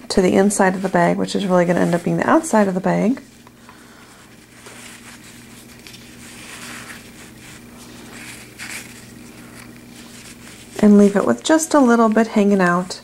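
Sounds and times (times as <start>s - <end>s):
low steady hum: 0.0s - 13.0s
fabric rustling: 0.1s - 13.0s.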